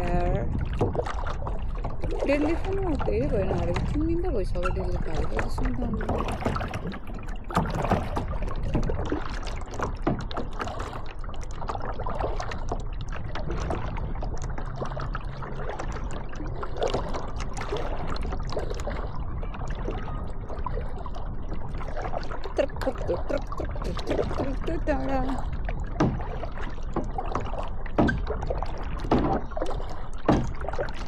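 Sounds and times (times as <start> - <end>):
paddles splashing in water: 0.0 - 31.0
steady low rumble: 0.0 - 31.0.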